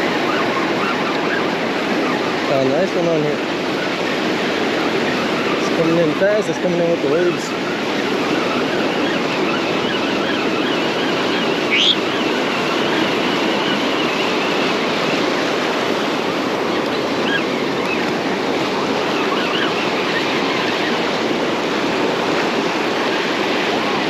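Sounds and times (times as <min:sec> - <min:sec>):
ocean surf breaking: 0:00.0 - 0:24.0.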